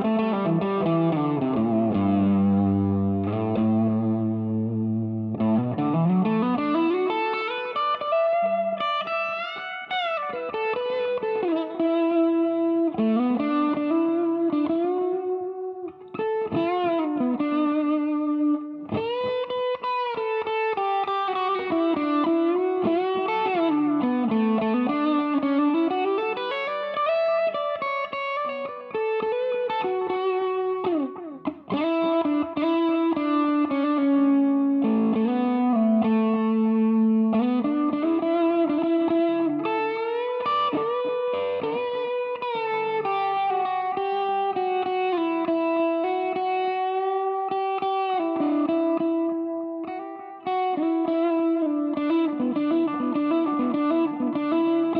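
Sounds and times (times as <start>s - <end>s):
overdriven electric guitar lead: 0.0s - 54.9s.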